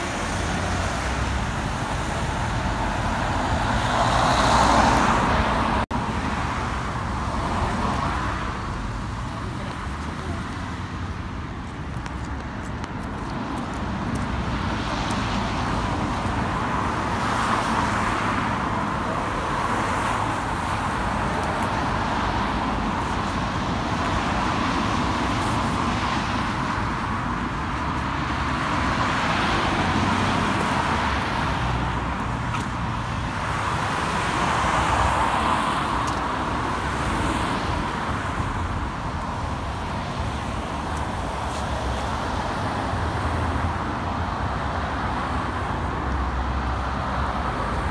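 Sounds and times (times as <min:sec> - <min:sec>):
cars passing close by: 0:00.0 - 0:47.9
road traffic: 0:00.0 - 0:47.9.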